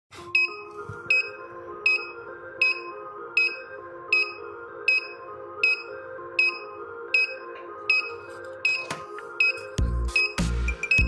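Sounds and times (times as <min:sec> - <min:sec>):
background music: 0:00.1 - 0:11.0.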